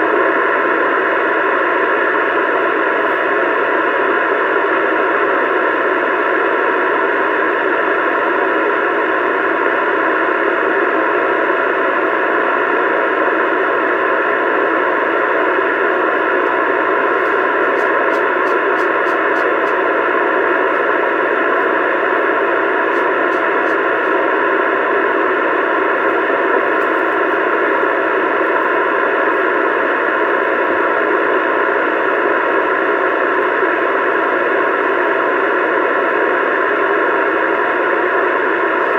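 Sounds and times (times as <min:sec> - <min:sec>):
radio static hiss: 0:00.0 - 0:38.9.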